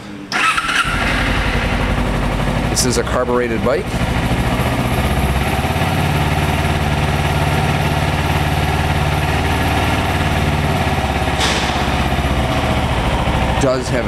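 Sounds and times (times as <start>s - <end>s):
motorcycle engine idling: 0.4s - 14.0s.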